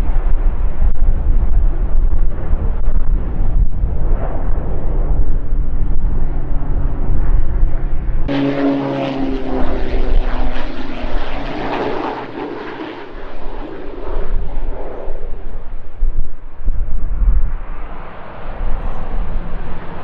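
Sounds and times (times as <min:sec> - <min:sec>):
propeller aircraft engines droning: 0:00.0 - 0:20.0
propeller plane passing: 0:00.0 - 0:20.0
wind rumbling on microphone: 0:00.0 - 0:20.0.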